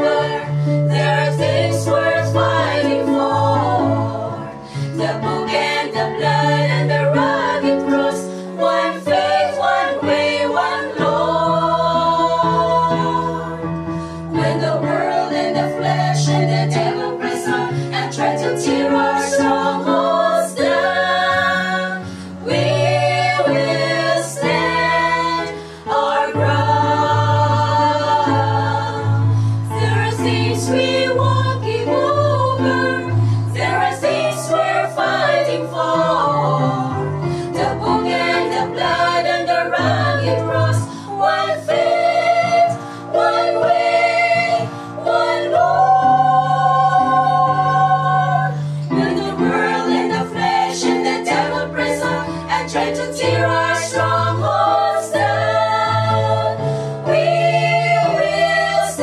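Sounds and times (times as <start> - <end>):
women singing in harmony: 0.0 - 59.0.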